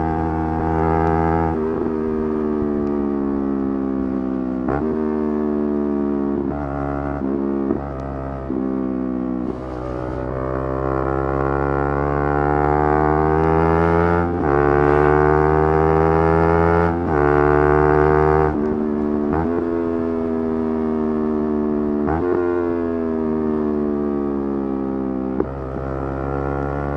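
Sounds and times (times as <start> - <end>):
motorcycle engine revving high: 0.0 - 26.9.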